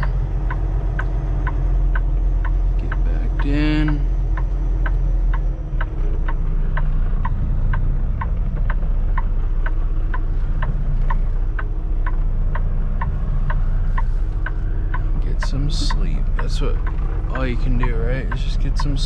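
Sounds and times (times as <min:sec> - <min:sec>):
cab indicator ticking: 0:00.0 - 0:19.0
truck diesel engine running: 0:00.0 - 0:19.0.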